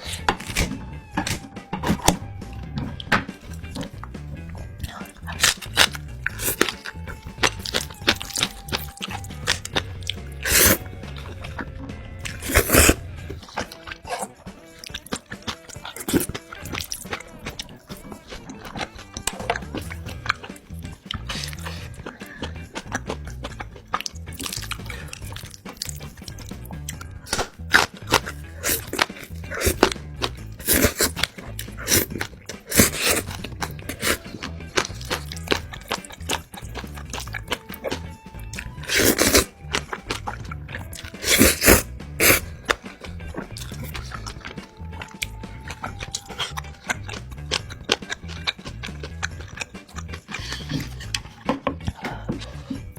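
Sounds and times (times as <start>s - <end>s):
background music with bass: 0.0s - 52.9s
crisp crunching and chewing: 4.6s - 52.9s.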